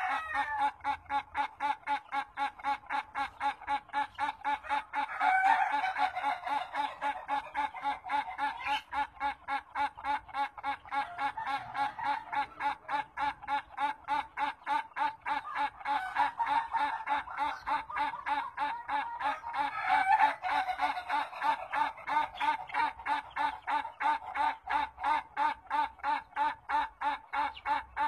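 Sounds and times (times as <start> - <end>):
rooster cackling: 0.0 - 28.0.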